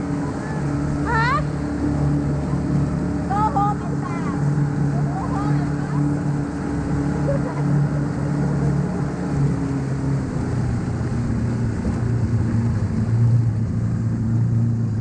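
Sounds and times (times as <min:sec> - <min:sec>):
motorboat engine running: 0:00.0 - 0:15.0
rush of wind and water: 0:00.0 - 0:15.0.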